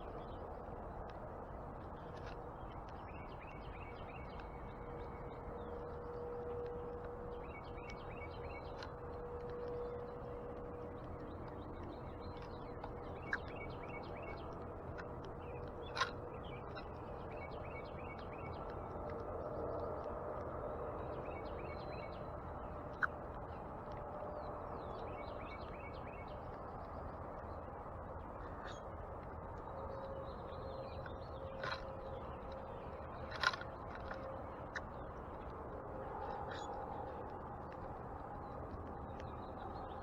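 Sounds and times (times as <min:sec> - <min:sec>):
birds chirping: 0:00.0 - 0:40.0
outdoor background noise: 0:00.0 - 0:40.0.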